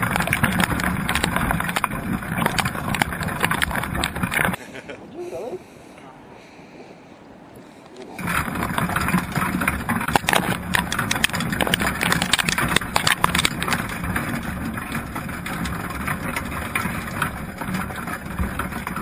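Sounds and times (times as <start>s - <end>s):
crabs clicking and scraping on wire: 0.0s - 4.6s, 7.9s - 19.0s
low underwater hum: 0.0s - 19.0s.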